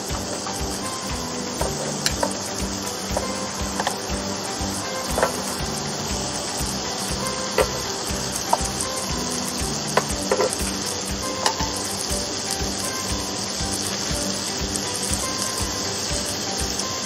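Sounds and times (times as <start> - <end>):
vegetables sizzling on grill: 0.0 - 17.0.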